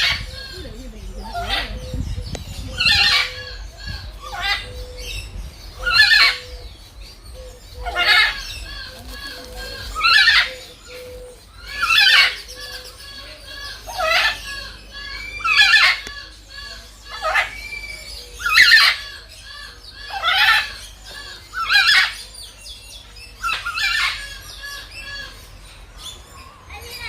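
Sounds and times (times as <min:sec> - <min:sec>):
peafowl calling loudly: 0:00.0 - 0:06.7, 0:07.4 - 0:22.3, 0:23.4 - 0:25.5
small birds chirping: 0:00.0 - 0:27.0.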